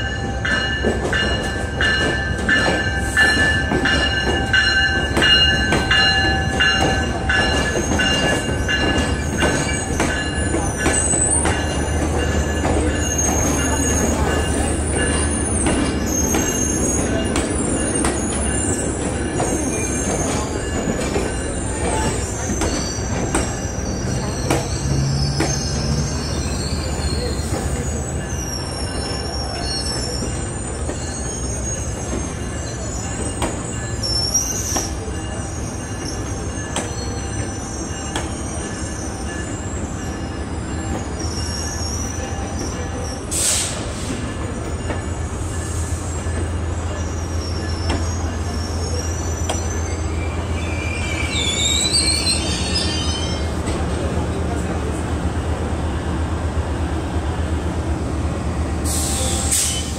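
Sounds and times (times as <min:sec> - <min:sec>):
train wheels squealing: 0:00.0 - 0:57.7, 0:58.7 - 0:59.9
train rumble: 0:00.0 - 0:59.9.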